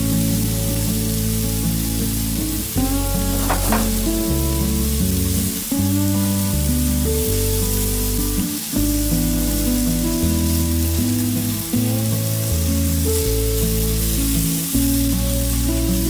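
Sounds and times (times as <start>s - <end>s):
meat and vegetables sizzling in pan: 0.0s - 16.0s.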